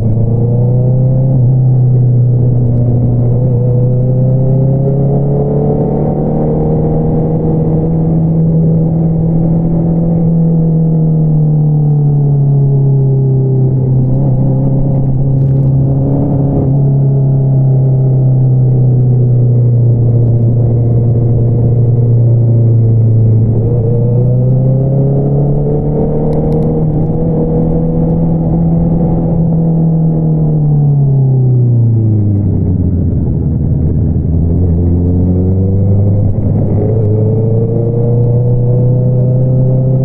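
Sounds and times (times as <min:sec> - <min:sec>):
motorcycle engine revving: 0:00.0 - 0:10.9, 0:13.1 - 0:40.0.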